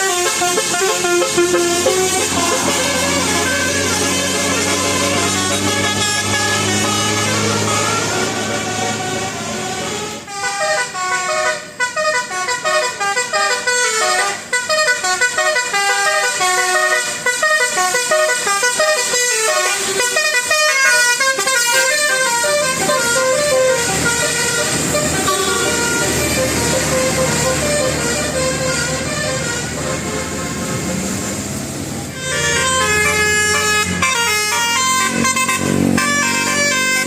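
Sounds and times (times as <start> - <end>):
musical bus horn tune: 0.0 - 37.0.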